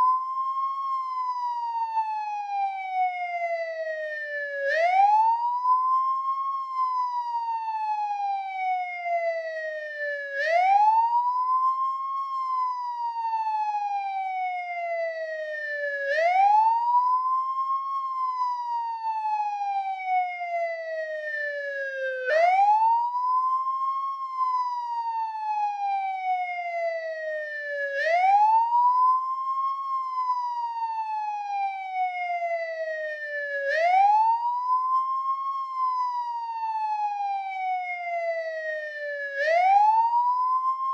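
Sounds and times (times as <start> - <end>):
police siren wailing: 0.0 - 40.9.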